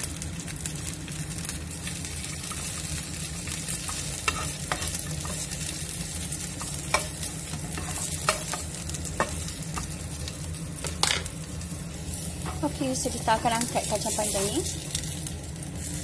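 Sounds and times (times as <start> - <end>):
beans sizzling in oil: 0.0 - 16.0.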